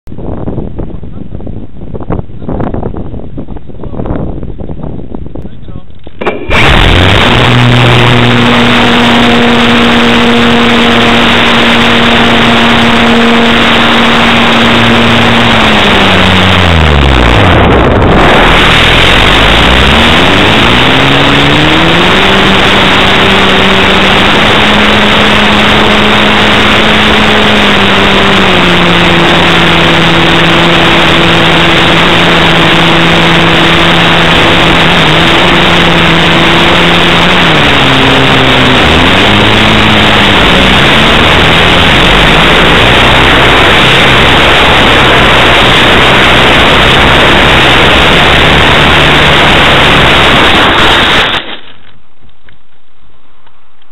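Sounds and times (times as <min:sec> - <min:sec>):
wind rushing on microphone: 0:00.0 - 0:51.5
electric motor and propeller whine: 0:06.0 - 0:52.0.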